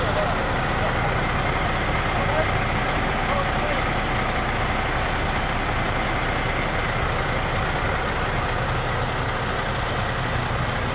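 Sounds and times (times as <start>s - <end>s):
heavy diesel engine running: 0.0s - 10.9s.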